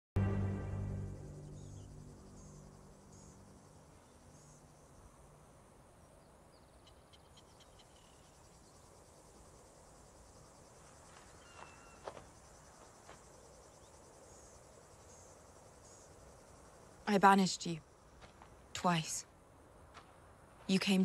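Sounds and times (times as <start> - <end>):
insects chirping: 0.4 - 21.0.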